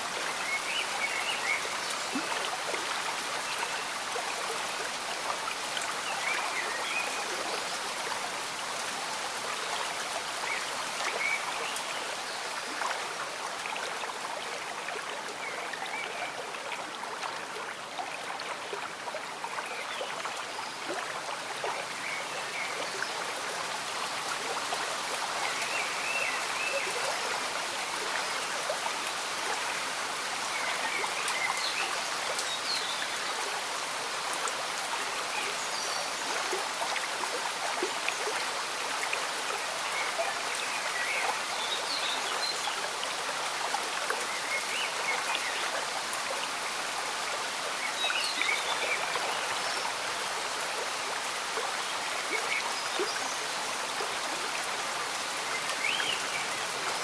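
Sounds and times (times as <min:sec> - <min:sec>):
gentle rain falling: 0:00.0 - 0:57.0
small stream bubbling: 0:00.0 - 0:57.0.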